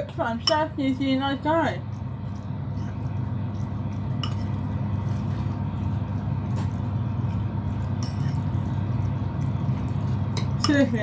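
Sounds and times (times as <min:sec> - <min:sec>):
metal utensil stirring in bowl: 0:00.0 - 0:11.0
steady low hum: 0:00.0 - 0:11.0.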